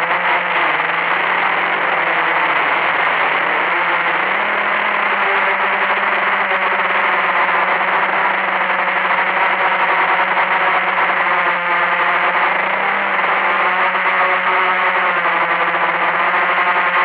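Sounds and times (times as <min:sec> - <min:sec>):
quadcopter propellers whirring: 0:00.0 - 0:17.0.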